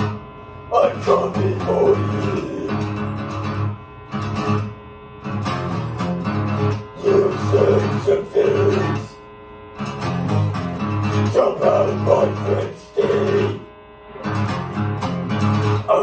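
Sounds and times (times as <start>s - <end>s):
guitars strumming chords: 0.0s - 16.0s.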